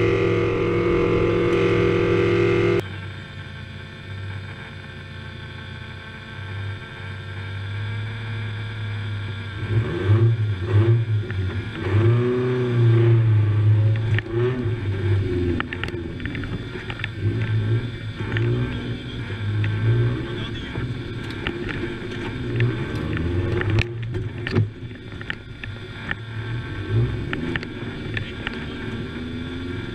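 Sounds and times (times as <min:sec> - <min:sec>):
car engine revving: 0:00.0 - 0:02.9, 0:08.8 - 0:29.9.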